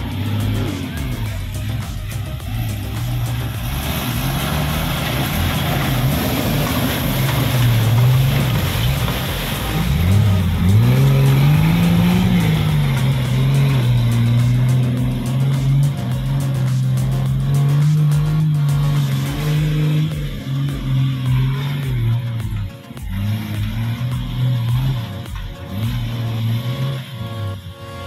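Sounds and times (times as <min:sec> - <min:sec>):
buggy engine revving: 0:00.0 - 0:28.0.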